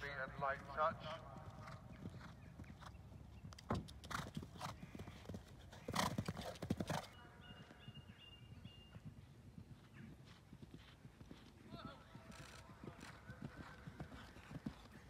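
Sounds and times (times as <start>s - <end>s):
horse hoofbeats on grass: 0.6s - 15.0s.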